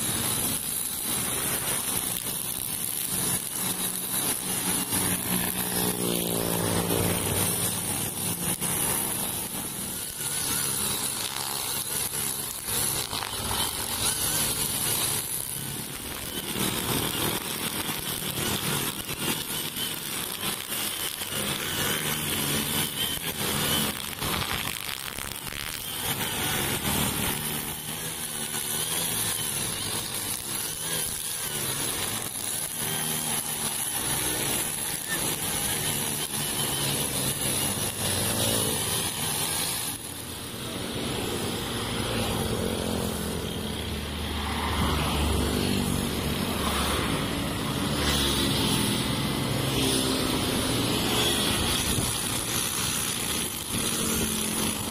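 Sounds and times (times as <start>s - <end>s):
brush cutter engine running: 0.0s - 54.9s
nylon line cutting grass: 0.0s - 54.9s
road traffic passing: 0.0s - 54.9s.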